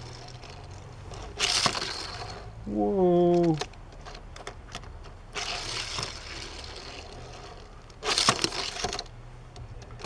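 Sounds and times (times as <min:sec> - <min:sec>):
toy car clattering on plastic track: 0:00.0 - 0:02.5, 0:03.3 - 0:09.1
toy car wheels rattling: 0:00.0 - 0:02.6, 0:03.2 - 0:09.2.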